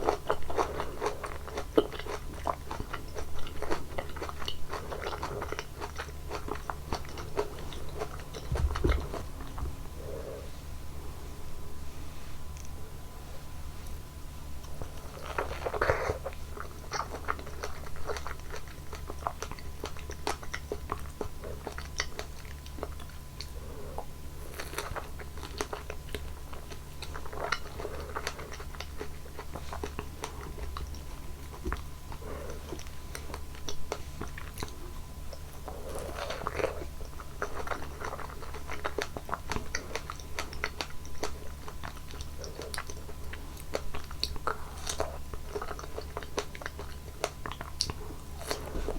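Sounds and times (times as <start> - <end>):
biting and chewing fruit: 0.0 - 10.4, 13.8 - 48.9.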